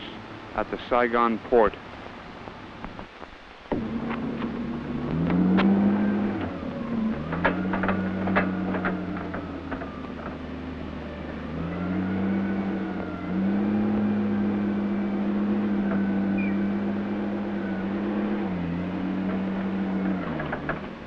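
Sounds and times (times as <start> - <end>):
forklift engine running: 1.8 - 21.0.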